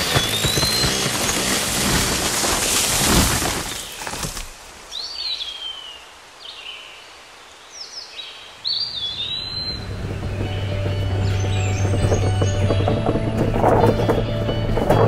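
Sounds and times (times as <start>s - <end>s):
songbirds singing: 0.0s - 1.2s, 3.6s - 15.0s.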